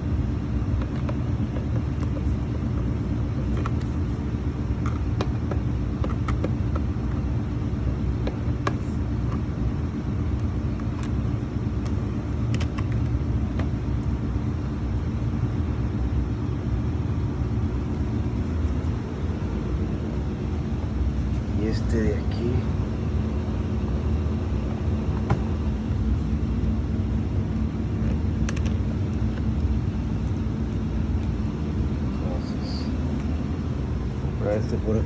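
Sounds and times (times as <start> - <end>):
low rumble with hum: 0.0 - 35.0.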